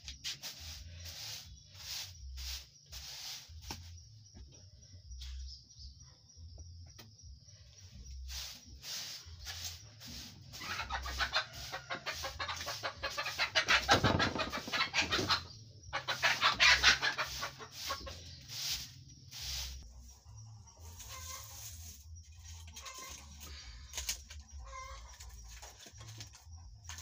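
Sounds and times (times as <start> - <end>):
broom sweeping dirt floor: 0.0 - 5.7, 7.5 - 27.0.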